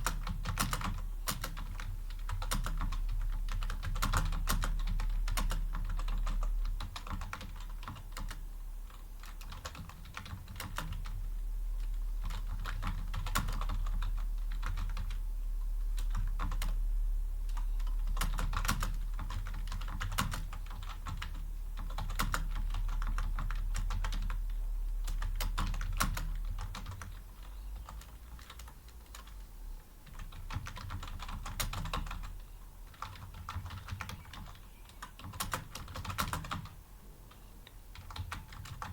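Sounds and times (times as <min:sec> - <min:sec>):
keyboard typing clicks: 0:00.0 - 0:11.2, 0:11.8 - 0:15.2, 0:16.0 - 0:16.8, 0:17.5 - 0:38.9
steady low hum: 0:00.0 - 0:38.9.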